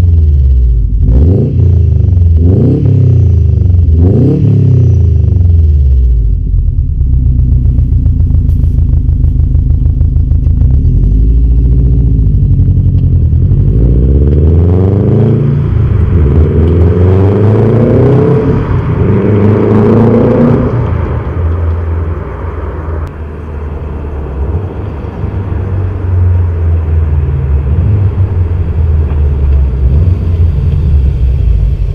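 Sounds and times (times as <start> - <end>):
car engine revving through exhaust: 0.0 - 31.9.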